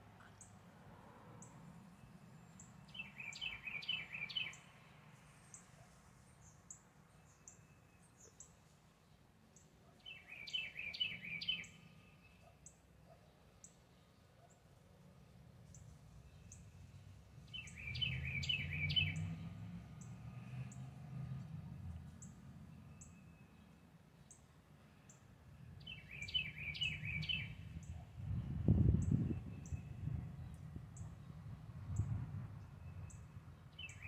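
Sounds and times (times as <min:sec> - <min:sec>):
songbird singing rolling notes: 0:01.4 - 0:05.7, 0:06.4 - 0:12.8, 0:15.7 - 0:34.0.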